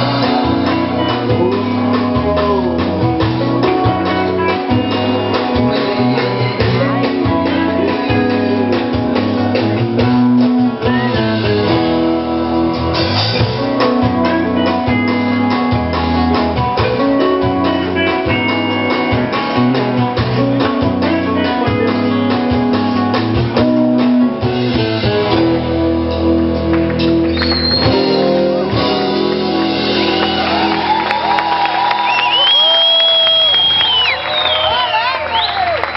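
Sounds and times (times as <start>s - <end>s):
live rock band playing: 0.0s - 35.9s.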